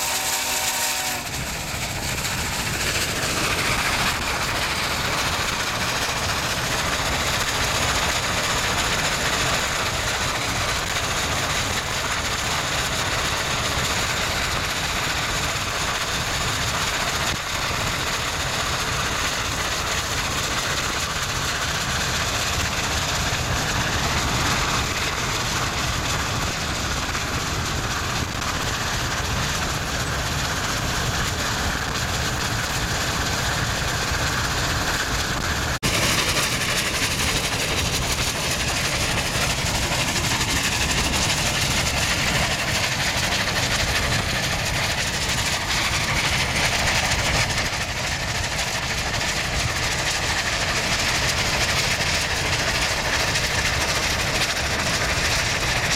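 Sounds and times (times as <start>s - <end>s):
steam locomotive running: 0.0s - 55.9s.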